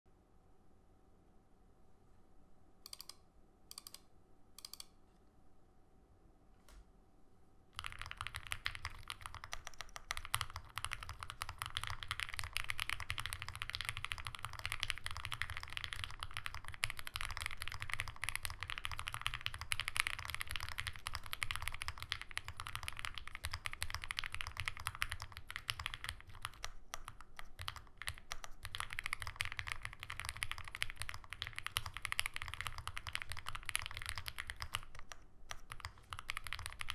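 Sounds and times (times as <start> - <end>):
mechanical keyboard typing: 2.9 - 4.0, 4.6 - 4.9, 7.8 - 36.9.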